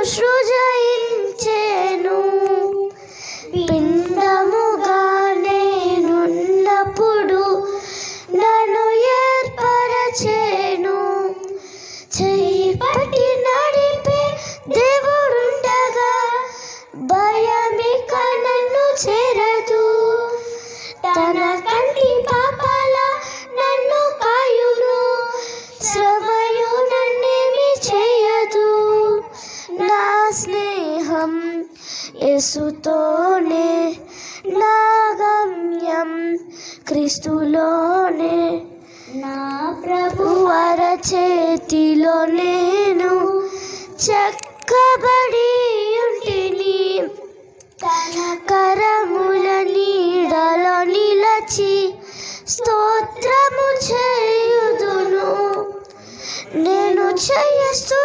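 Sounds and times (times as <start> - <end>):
girls singing into microphones: 0.0 - 58.0.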